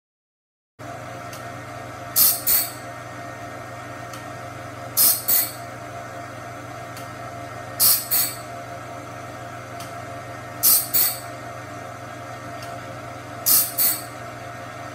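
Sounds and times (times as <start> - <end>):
motor hum: 0.8 - 14.9.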